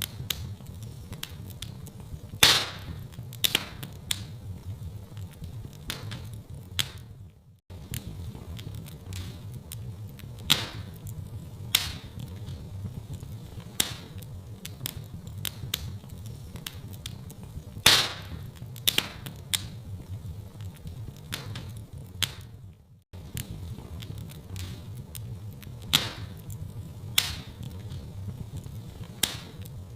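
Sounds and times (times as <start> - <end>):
fire popping and snapping: 0.0 - 29.9
fire rumbling: 0.0 - 29.9.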